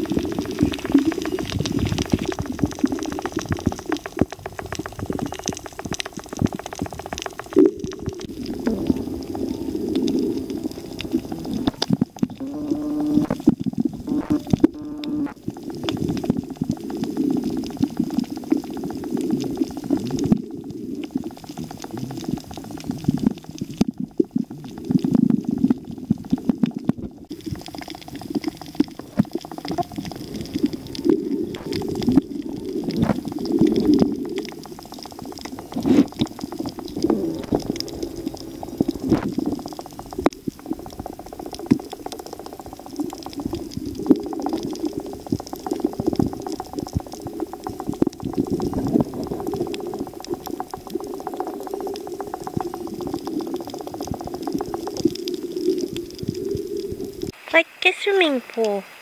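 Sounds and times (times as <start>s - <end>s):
underwater rumbling and bubbling: 0.0s - 57.6s.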